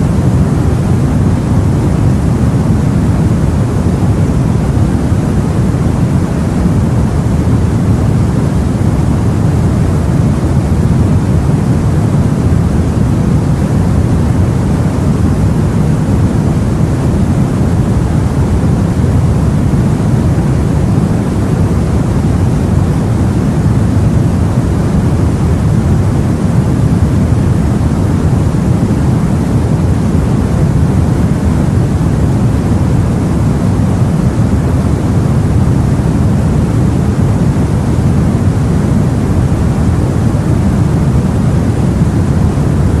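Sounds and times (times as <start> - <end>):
low rushing sea rumble: 0.0 - 43.0.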